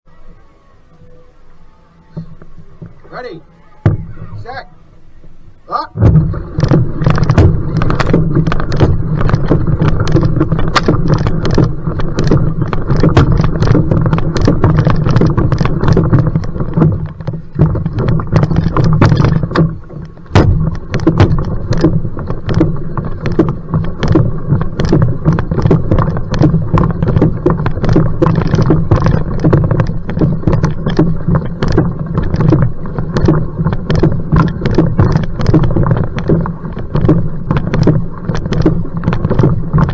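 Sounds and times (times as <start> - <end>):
paddle strokes splashing: 2.2 - 39.9
wind rumble on microphone: 6.0 - 39.9.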